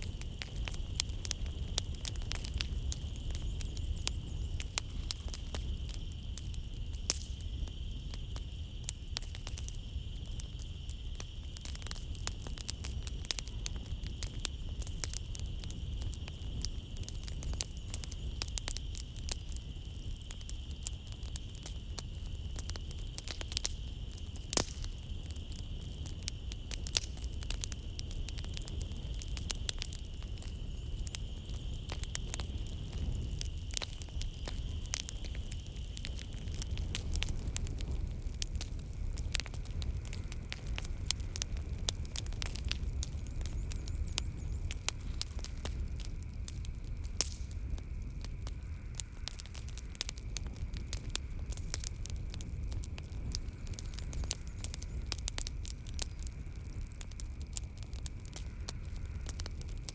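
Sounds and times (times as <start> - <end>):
crickets chirring: 0.0 - 59.9
wood fire crackling: 0.0 - 59.9.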